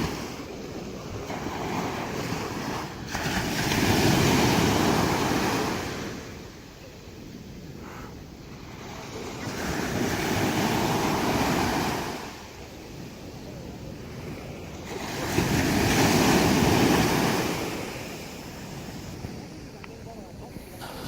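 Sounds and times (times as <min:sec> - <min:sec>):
sea waves breaking on beach: 0:00.0 - 0:21.0.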